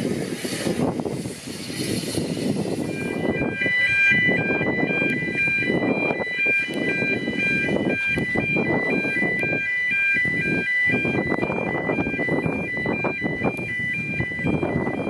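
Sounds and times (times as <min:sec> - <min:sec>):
high electronic chime tune: 0:02.8 - 0:15.0.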